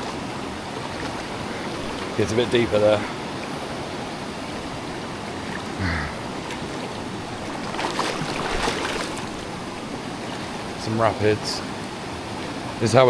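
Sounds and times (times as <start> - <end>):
splashing of wading: 0.0 - 10.9
river rushing over rapids: 0.0 - 13.0.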